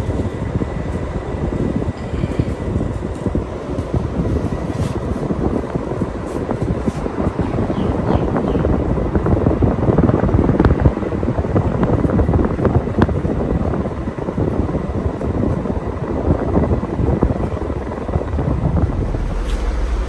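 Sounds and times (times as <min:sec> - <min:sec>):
air buffeting microphone: 0:00.0 - 0:20.0
ceiling fan whooshing: 0:00.0 - 0:20.0.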